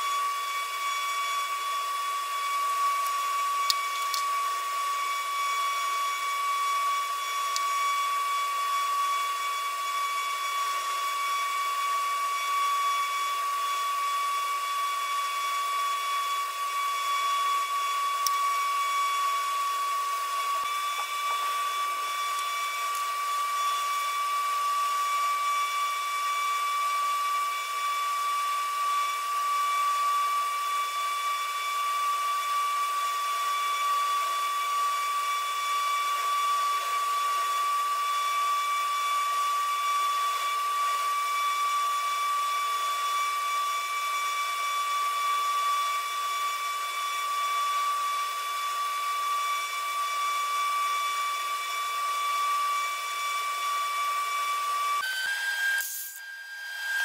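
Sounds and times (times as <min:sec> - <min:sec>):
small motor whining: 0:00.0 - 0:57.0.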